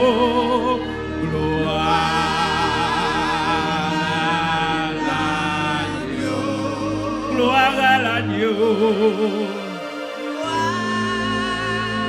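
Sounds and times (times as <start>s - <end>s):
people singing slow song: 0.0s - 12.0s.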